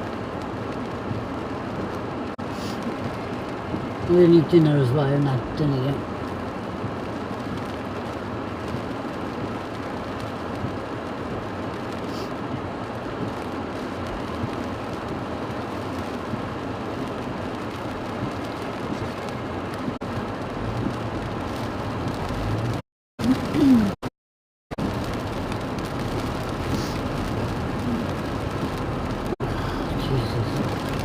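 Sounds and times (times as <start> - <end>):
rain on a car: 0.0 - 24.1, 24.7 - 31.0.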